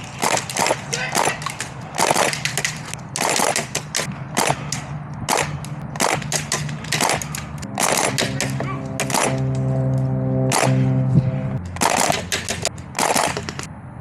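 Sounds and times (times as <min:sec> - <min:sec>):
airsoft gunfire: 0:00.0 - 0:09.6, 0:10.5 - 0:11.0, 0:11.6 - 0:13.7.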